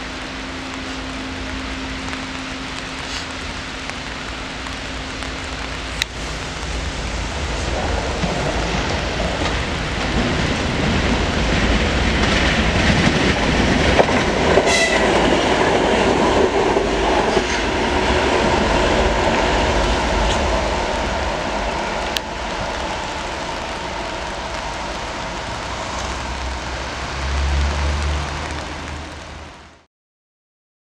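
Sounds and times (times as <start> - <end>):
diesel locomotive passing: 0.0 - 29.8
wheels on track: 0.0 - 29.8.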